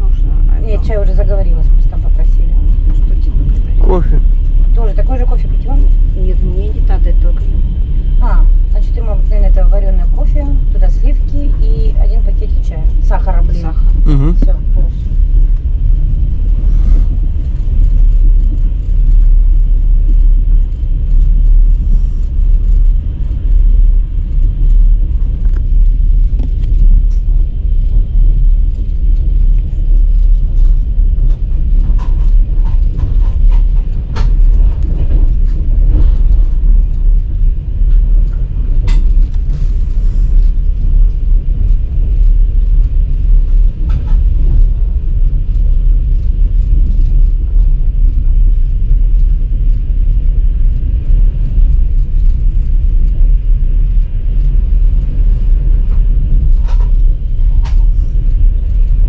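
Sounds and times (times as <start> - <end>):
vehicle rumble: 0.0 - 59.0.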